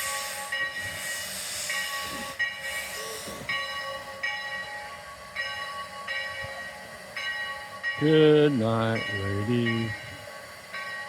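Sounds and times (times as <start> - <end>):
locomotive bell ringing: 0.0 - 11.0
steam locomotive hissing: 0.0 - 11.0.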